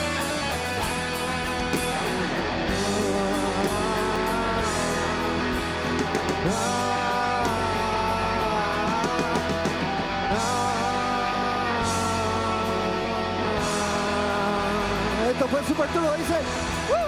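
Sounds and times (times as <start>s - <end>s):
bass and drums: 0.0s - 17.0s
electric guitar sustained notes: 0.0s - 17.0s.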